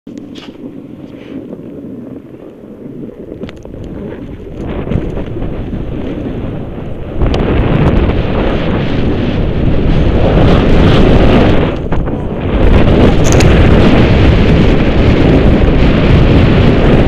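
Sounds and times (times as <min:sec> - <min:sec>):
snowboard sliding over snow: 0:00.1 - 0:17.0
wind noise on microphone: 0:00.1 - 0:17.0.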